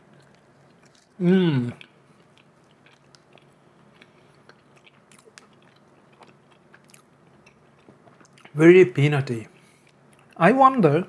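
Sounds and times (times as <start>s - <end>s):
faint chewing of soft food: 0.0s - 8.6s, 9.6s - 10.4s.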